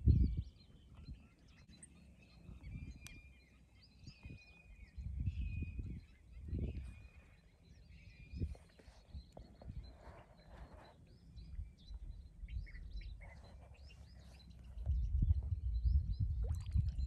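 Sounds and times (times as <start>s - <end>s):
wind rumble on microphone: 0.0s - 1.6s, 2.3s - 17.0s
birds calling and chirping: 0.0s - 17.0s.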